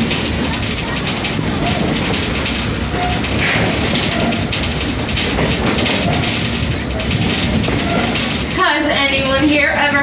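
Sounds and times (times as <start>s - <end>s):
train wheels rumbling and rattling: 0.0s - 10.0s.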